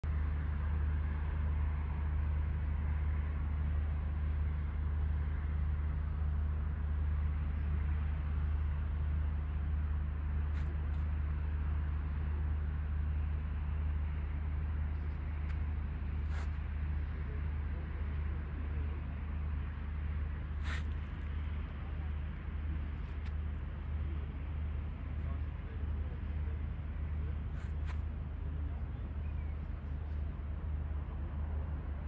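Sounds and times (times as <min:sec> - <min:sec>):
ship engines droning: 0:00.1 - 0:32.0.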